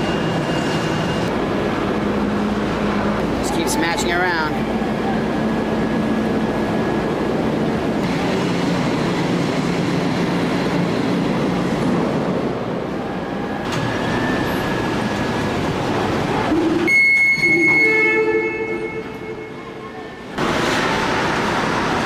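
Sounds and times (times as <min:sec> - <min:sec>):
heavy machinery running: 0:00.0 - 0:18.1, 0:20.2 - 0:22.0.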